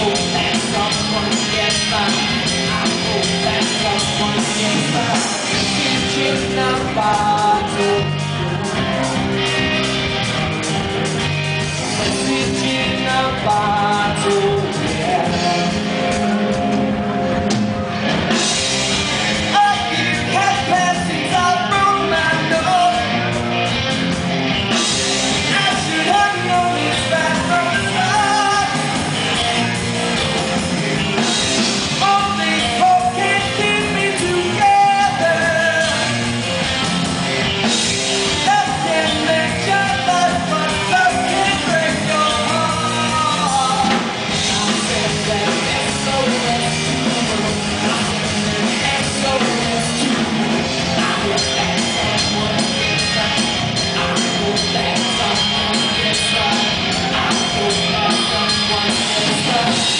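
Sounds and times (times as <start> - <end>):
man singing: 0.0 - 9.4, 11.4 - 16.9, 18.3 - 23.7, 24.7 - 36.6, 37.3 - 59.9
bass guitar: 0.0 - 59.9
drum kit: 0.0 - 59.9
electric guitar: 0.0 - 59.9.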